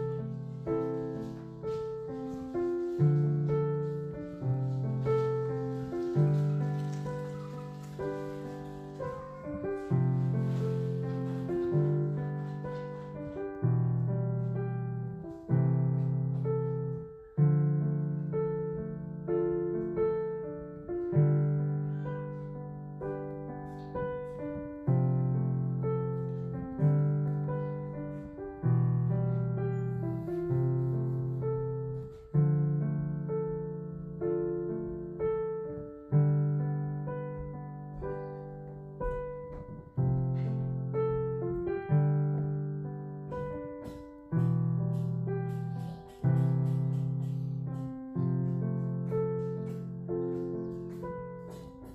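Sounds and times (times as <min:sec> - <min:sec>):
gentle piano music: 0:00.0 - 0:51.9.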